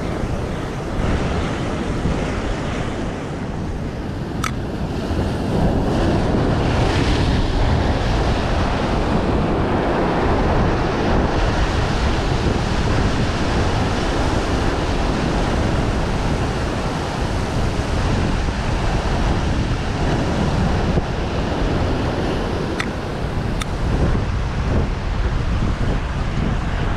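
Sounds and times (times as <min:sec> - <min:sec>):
sea surf breaking over rocks: 0:00.0 - 0:26.9
wind buffeting microphone: 0:00.0 - 0:26.9.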